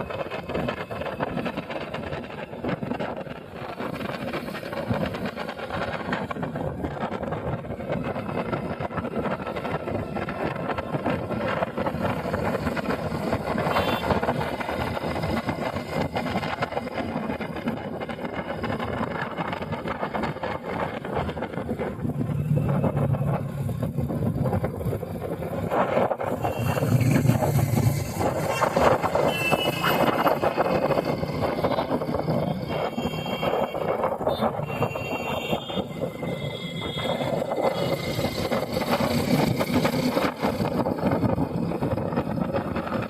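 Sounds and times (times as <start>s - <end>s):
motorcycle engine: 0.0s - 43.0s
rushing road noise: 0.0s - 43.0s.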